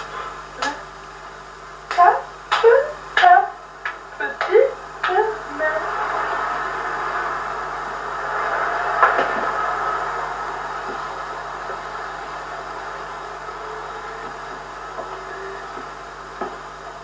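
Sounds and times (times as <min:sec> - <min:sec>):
steady machine noise: 0:00.0 - 0:17.0.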